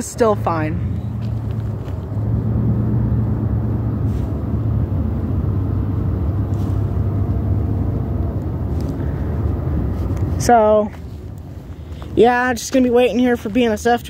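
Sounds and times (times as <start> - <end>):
engine idling rumble: 0.0 - 14.0.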